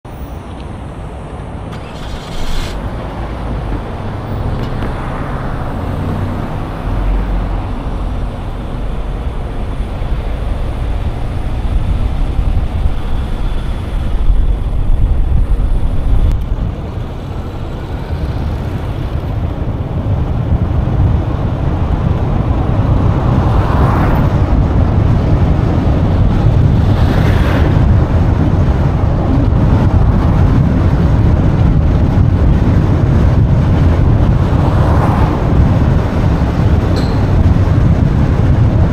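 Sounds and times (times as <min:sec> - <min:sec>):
low traffic rumble: 0:00.1 - 0:38.9
vehicles passing: 0:00.1 - 0:38.9.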